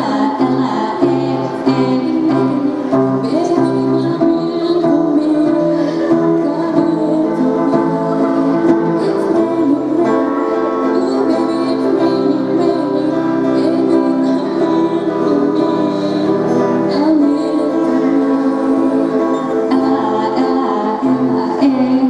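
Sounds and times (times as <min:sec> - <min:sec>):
person singing: 0:00.0 - 0:22.0
plucked acoustic guitar: 0:00.0 - 0:22.0.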